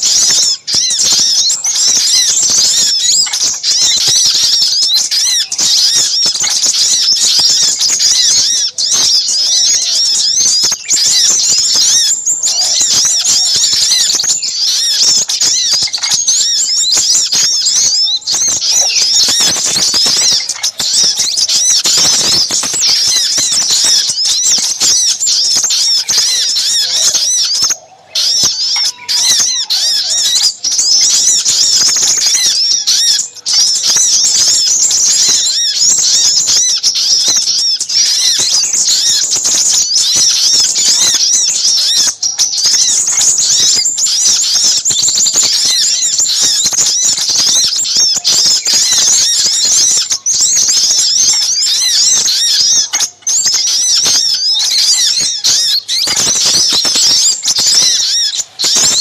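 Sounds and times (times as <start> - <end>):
high-pitched bird chirps and squeaks: 0.0 - 59.0.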